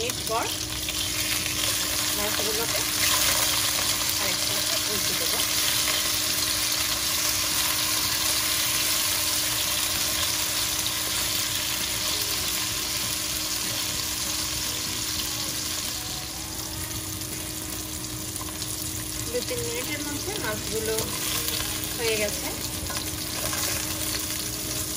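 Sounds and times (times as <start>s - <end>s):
fish sizzling in a frying pan: 0.0s - 24.9s.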